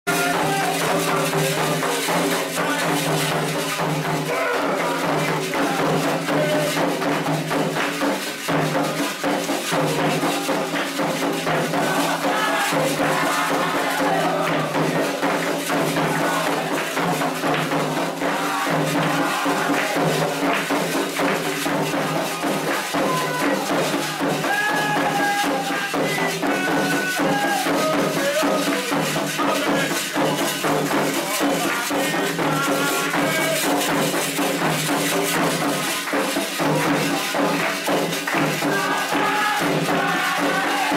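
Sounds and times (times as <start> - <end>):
ceremonial drumming: 0.1 - 40.9
shaken and struck percussion: 0.1 - 40.9.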